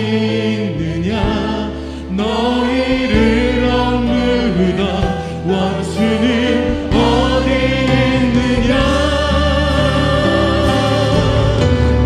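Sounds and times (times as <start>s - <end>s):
keyboard and band accompaniment: 0.0s - 12.0s
voices singing praise song: 0.0s - 12.0s.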